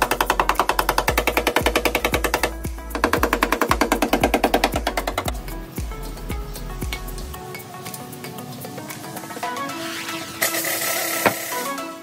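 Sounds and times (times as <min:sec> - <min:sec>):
background music with kick beat: 0:00.0 - 0:12.0.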